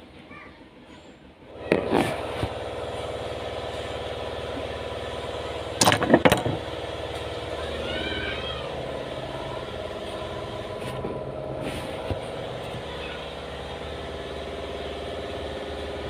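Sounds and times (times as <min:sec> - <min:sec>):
motor humming: 0:01.5 - 0:16.0.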